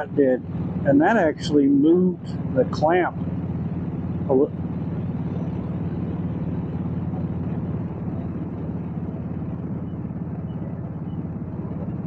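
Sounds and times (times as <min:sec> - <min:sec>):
motorcycle engine cruising: 0:00.0 - 0:12.0
road and wind noise: 0:00.0 - 0:12.0.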